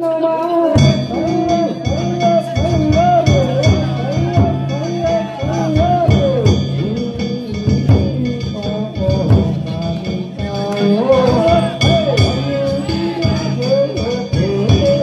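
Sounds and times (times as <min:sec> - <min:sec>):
ornamented high melody: 0:00.7 - 0:15.0
ringing metallic tone: 0:00.8 - 0:15.0
taiko drum beats: 0:00.8 - 0:15.0.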